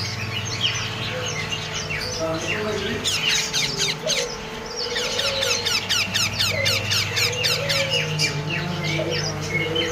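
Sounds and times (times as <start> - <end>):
parrot chicks squeaking: 0.0 - 9.9.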